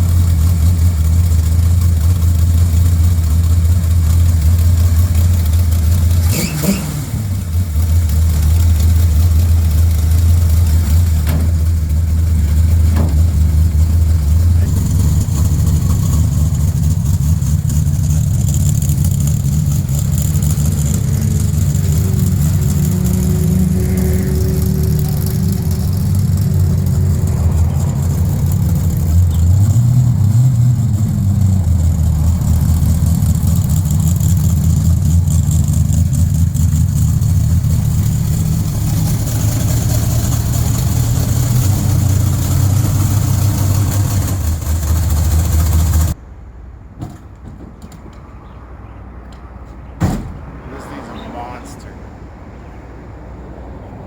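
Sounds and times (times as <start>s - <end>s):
car engine idling and revving: 0.0s - 46.7s.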